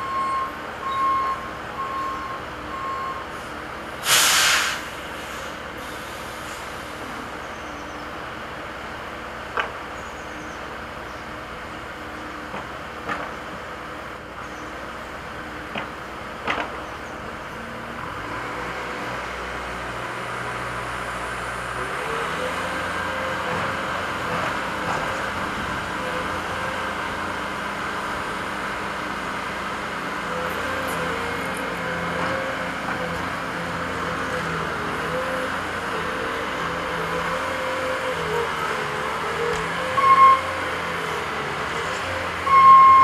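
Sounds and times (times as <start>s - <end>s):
diesel machinery engines running: 0.0s - 43.0s.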